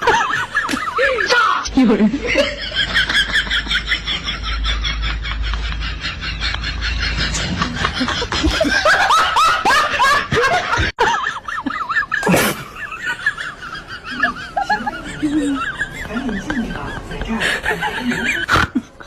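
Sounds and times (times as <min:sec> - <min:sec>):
laughter in bursts: 0:00.0 - 0:01.3, 0:02.0 - 0:19.0.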